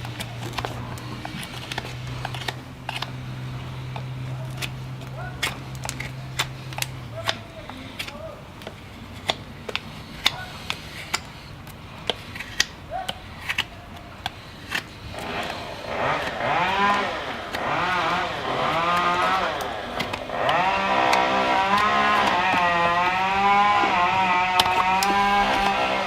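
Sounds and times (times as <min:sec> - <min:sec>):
power tool grinding: 0:00.0 - 0:26.0
sharp clicks: 0:00.0 - 0:26.0.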